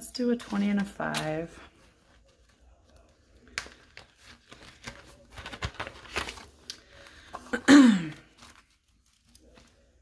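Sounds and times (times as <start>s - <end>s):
paper and plastic crinkling: 0.0s - 10.0s.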